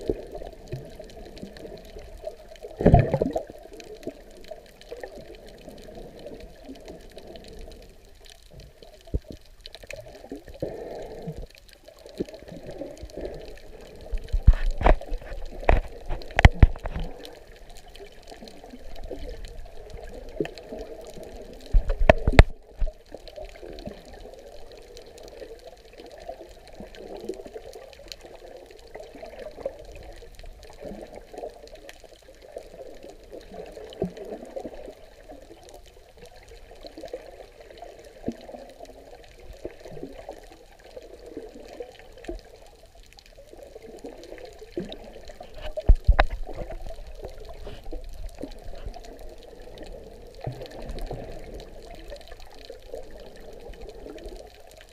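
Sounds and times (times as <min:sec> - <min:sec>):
muffled underwater sloshing: 0:00.0 - 0:54.9.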